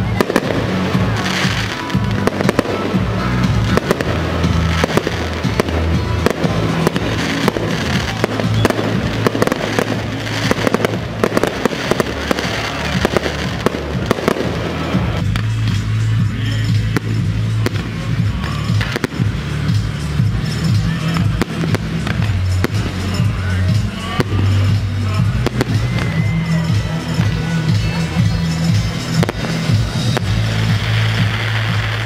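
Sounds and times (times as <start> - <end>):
fireworks bursting and crackling: 0.0 - 32.0
music with steady bass line: 0.0 - 32.0.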